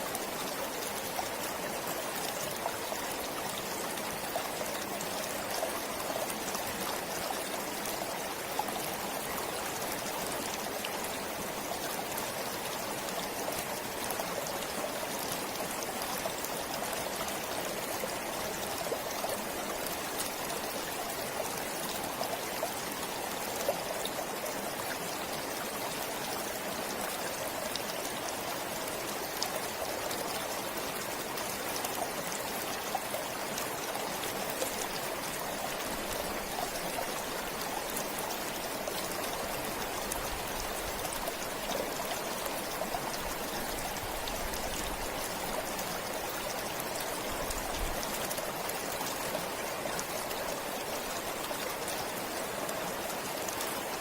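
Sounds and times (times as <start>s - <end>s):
stream flowing: 0.0s - 54.0s
water splashes and trickles: 0.0s - 54.0s.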